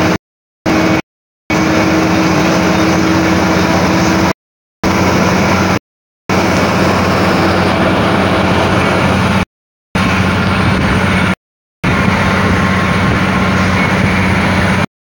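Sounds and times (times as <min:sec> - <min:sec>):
vehicle engine and road noise: 0:00.0 - 0:14.9.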